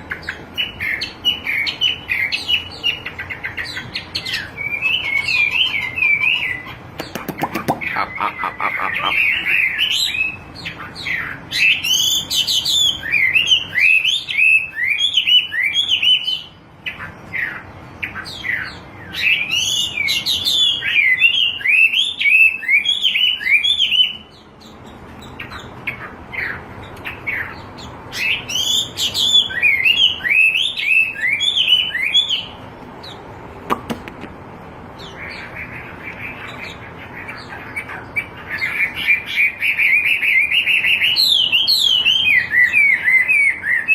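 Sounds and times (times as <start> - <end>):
bird trill: 0.0 - 33.3, 34.9 - 43.9
bird chirping: 0.0 - 43.9.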